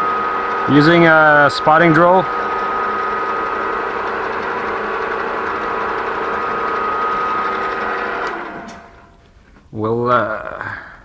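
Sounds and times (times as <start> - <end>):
milling machine spindle whine: 0.0 - 9.2.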